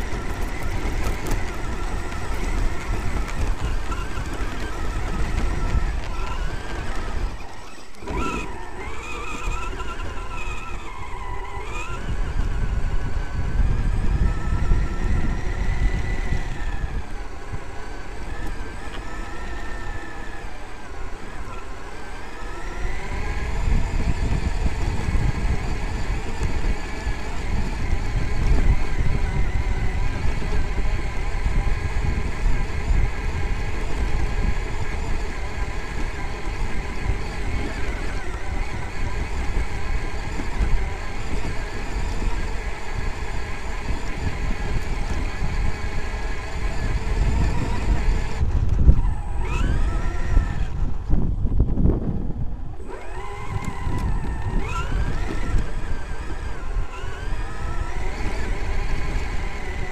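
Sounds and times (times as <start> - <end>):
tyres rumbling on rough grass: 0.0 - 51.8
electric motor whining: 0.0 - 59.9.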